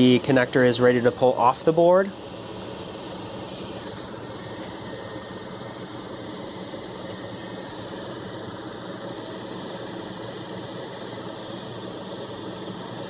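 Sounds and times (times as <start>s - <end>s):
fume extractor fan whirring: 0.0s - 13.0s.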